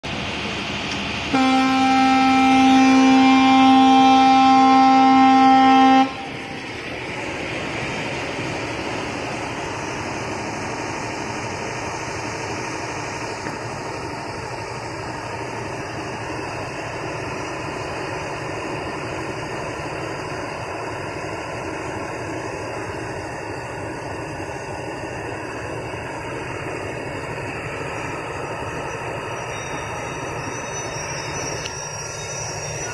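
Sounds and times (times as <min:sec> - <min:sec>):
diesel locomotive engine running: 0:00.0 - 0:32.9.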